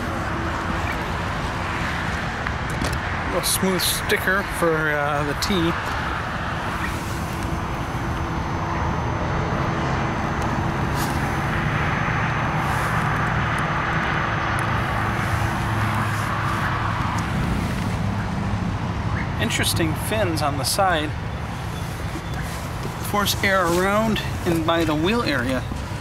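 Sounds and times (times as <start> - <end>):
road traffic hiss: 0.0 - 26.0.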